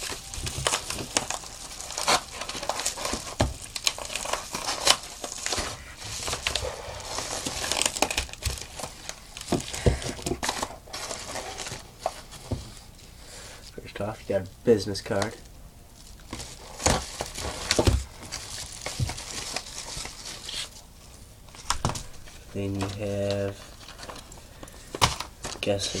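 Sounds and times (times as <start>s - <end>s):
packaging crinkling and rustling: 0.0s - 14.2s, 14.9s - 26.0s.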